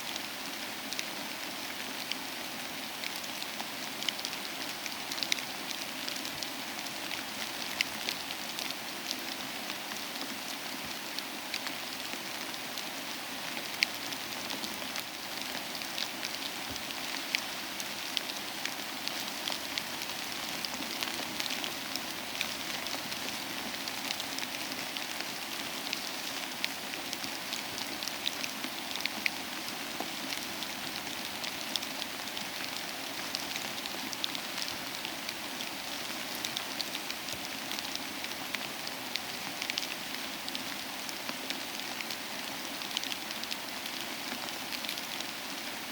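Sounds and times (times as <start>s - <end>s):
soft rain: 0.0s - 45.9s.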